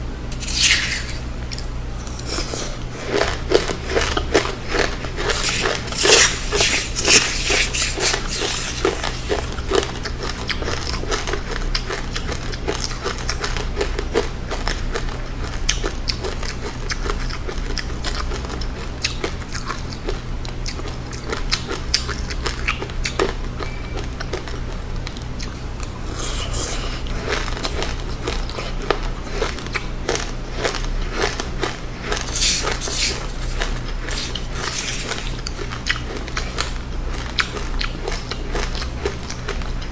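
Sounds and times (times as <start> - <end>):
crunching of chewed seeds: 0.3 - 39.9.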